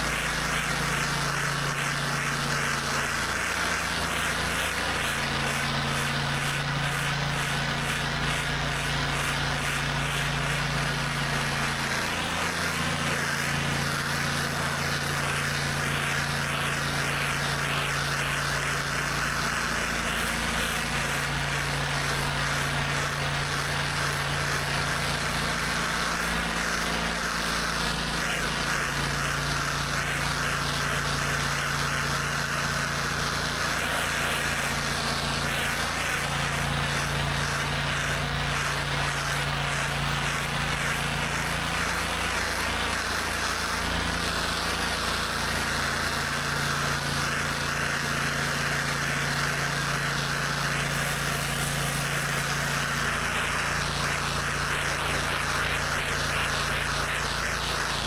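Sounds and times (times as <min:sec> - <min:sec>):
hiss of water spray: 0:00.0 - 0:58.0
pressure washer engine running: 0:00.0 - 0:58.0.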